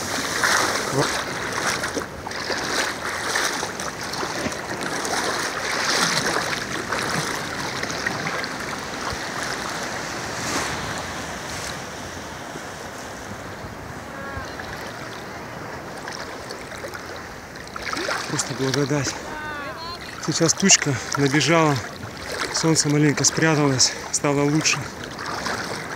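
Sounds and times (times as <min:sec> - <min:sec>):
seawater sloshing and lapping: 0:00.0 - 0:25.9.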